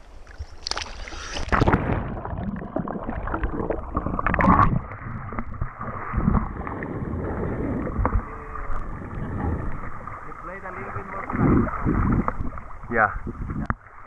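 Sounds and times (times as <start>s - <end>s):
water splashing: 0.0s - 14.0s
muffled underwater gurgling: 1.1s - 13.8s.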